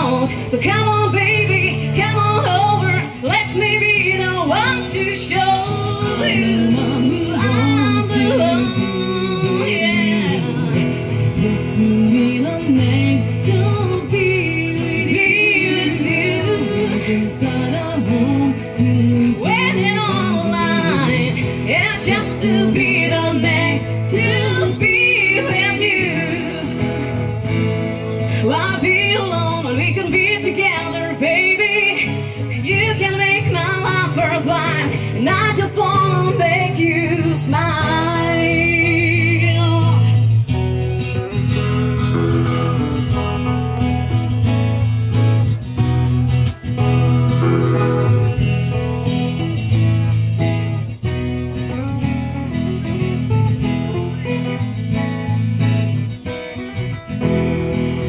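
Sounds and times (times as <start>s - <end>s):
live band playing: 0.0s - 58.0s.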